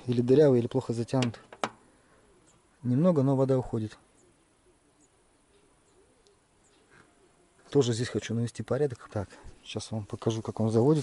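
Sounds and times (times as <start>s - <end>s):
faint low bird calls: 0.0s - 10.4s.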